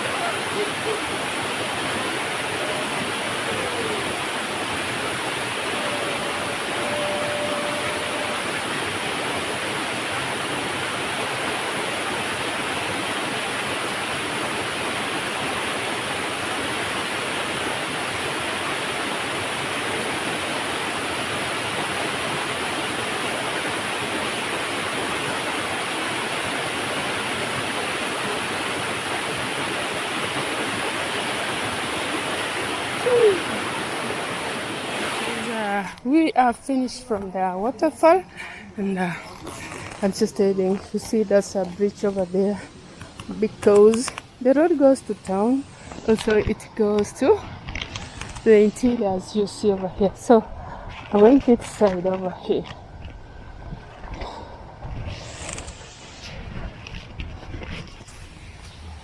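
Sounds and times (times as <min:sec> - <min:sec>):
waterfall rushing: 0:00.0 - 0:50.1.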